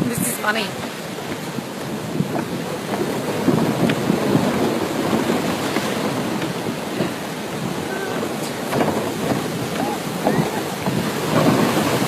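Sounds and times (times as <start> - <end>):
sea waves splashing: 0.0 - 12.0
wind buffeting microphone: 0.0 - 12.0.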